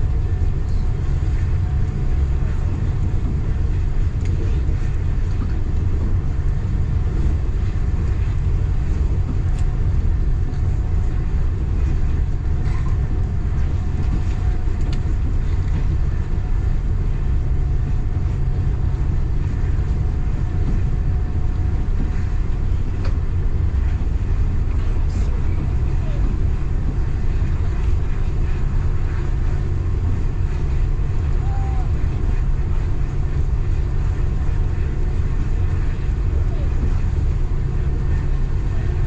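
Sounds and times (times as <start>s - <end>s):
train rumbling on track: 0.0s - 39.0s.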